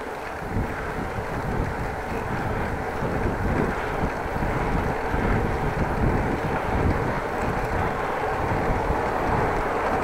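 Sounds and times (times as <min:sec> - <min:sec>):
road noise rushing: 0:00.0 - 0:10.0
wind buffeting microphone: 0:00.0 - 0:10.0.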